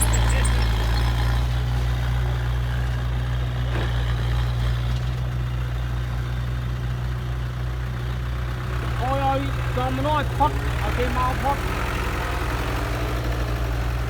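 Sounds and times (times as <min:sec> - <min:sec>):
diesel engine droning at low revs: 0:00.0 - 0:14.0.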